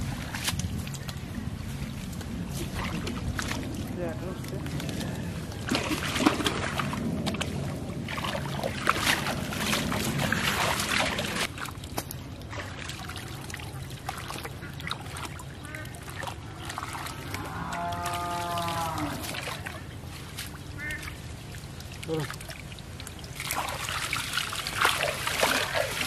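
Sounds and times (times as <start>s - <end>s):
water splashing and trickling: 0.0s - 26.0s.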